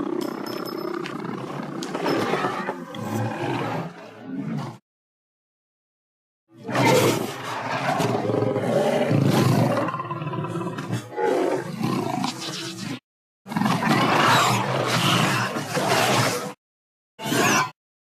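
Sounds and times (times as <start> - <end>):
dinosaur roar: 0.0 - 4.8, 6.6 - 16.6.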